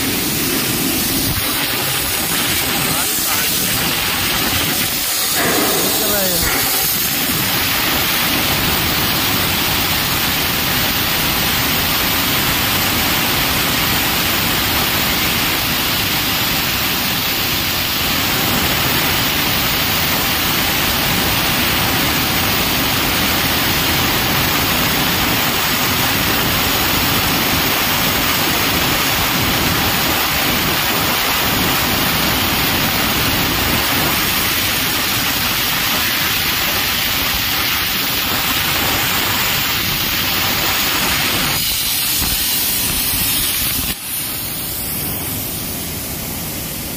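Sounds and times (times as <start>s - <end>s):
plasma cutter hissing: 0.0s - 46.9s.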